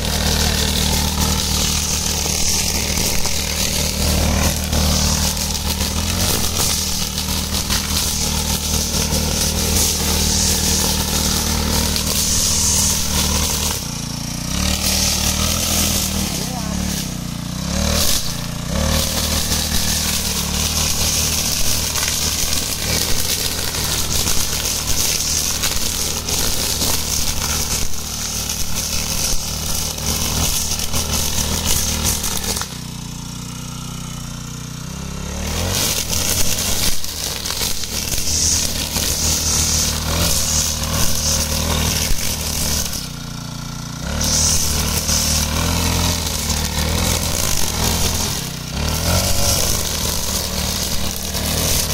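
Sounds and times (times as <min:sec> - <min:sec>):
cutting head slashing grass: 0:00.0 - 0:33.5, 0:35.2 - 0:51.9
brush cutter engine running: 0:00.0 - 0:51.9.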